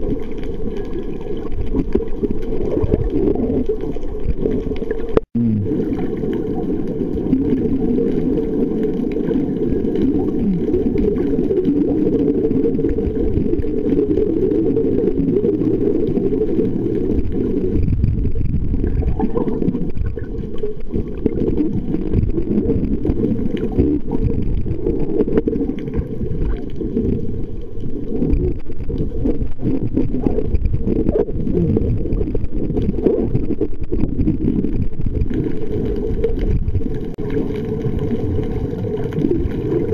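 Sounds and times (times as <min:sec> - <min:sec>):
muffled underwater rumble: 0:00.0 - 0:39.9
small clicks and crackles: 0:00.0 - 0:39.9.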